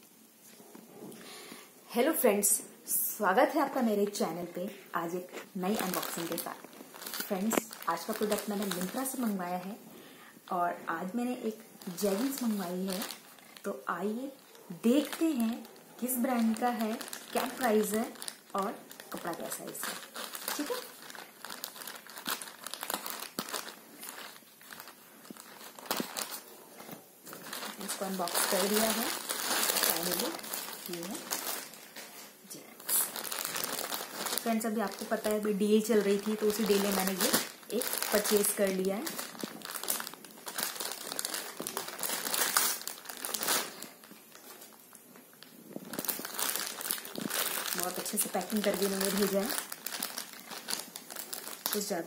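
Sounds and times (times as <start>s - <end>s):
plastic bag crinkling: 3.6s - 52.0s.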